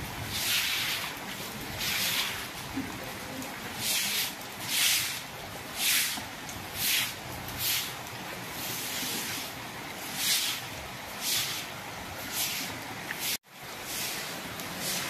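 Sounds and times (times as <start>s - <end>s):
broom swishing on wet paving: 0.0s - 15.0s
rain hissing: 0.0s - 15.0s.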